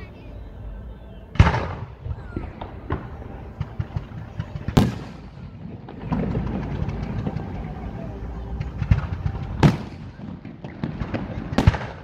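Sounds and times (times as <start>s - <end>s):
rumbling echo: 0.5s - 12.0s
firework crackle: 1.4s - 12.0s.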